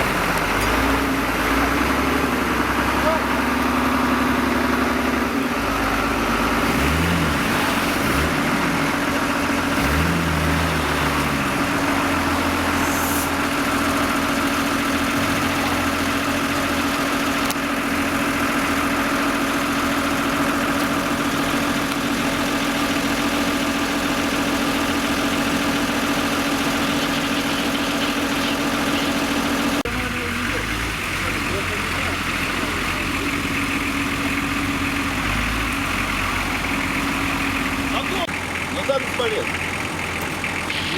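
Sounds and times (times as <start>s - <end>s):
vehicle engine droning: 0.0s - 40.9s.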